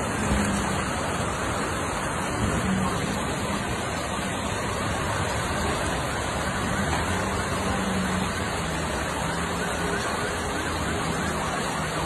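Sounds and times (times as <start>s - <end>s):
heavy rain and rushing floodwater: 0.0s - 12.0s.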